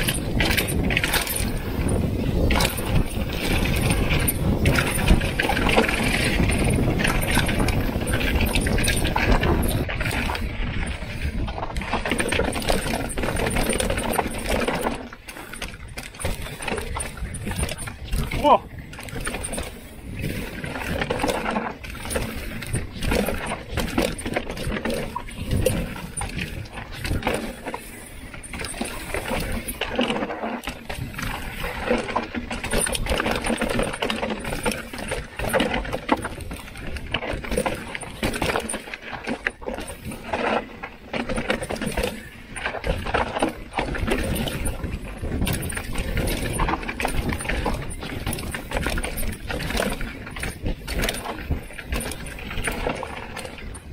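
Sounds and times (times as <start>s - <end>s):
bike rattling and knocking: 0.0s - 53.9s.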